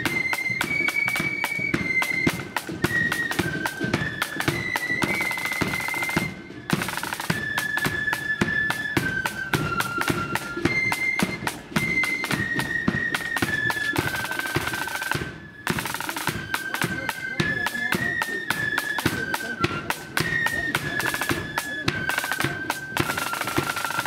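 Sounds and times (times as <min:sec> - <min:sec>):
flutes playing melody: 0:00.0 - 0:24.0
rapid snare drumming: 0:00.0 - 0:24.0.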